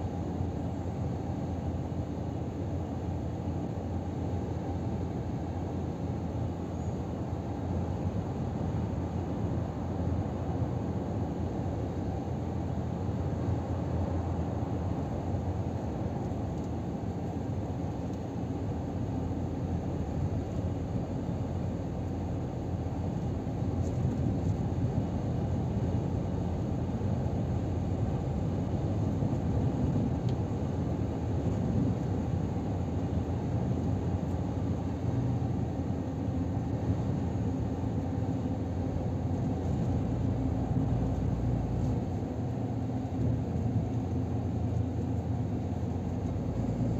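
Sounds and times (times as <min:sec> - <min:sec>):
road and tyre rumble: 0:00.1 - 0:46.9.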